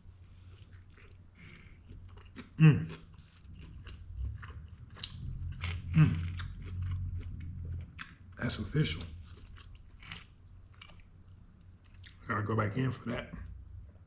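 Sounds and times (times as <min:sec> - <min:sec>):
person chewing crunchy food: 0:00.1 - 0:12.2.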